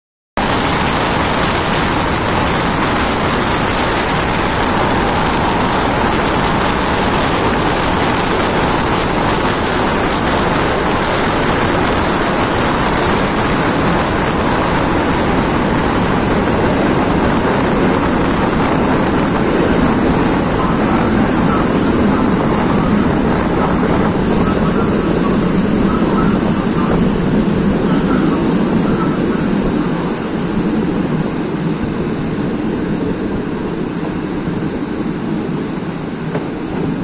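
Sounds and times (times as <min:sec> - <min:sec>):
train wheels rolling on rails: 0:00.4 - 0:37.0
wind buffeting microphone: 0:00.4 - 0:37.0.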